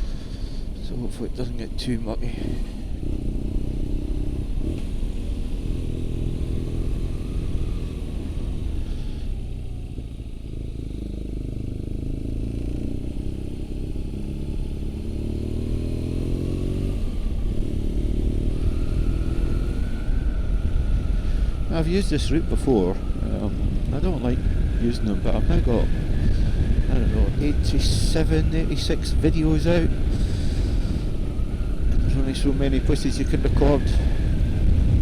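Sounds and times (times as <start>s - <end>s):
motorcycle engine running: 2.3s - 21.6s, 23.0s - 32.8s.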